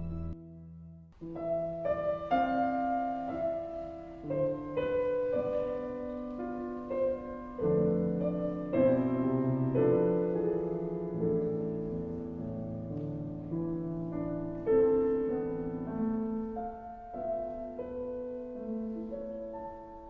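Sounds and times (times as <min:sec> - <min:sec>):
gentle solo piano music: 0:01.2 - 0:20.0.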